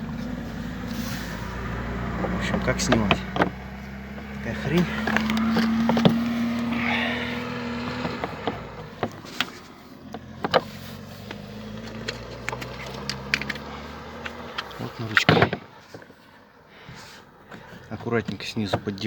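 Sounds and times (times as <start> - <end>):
car running hum: 0.0 - 19.0.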